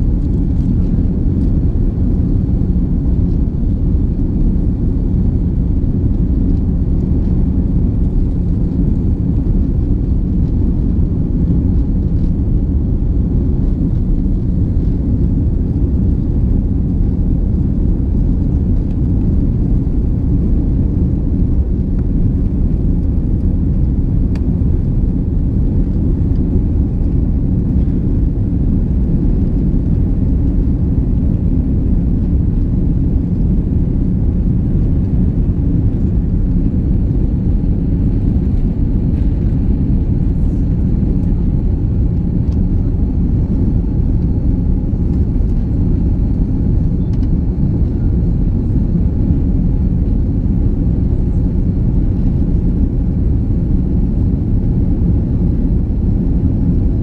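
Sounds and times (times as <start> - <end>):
jet cabin engine rumble: 0.0 - 57.0.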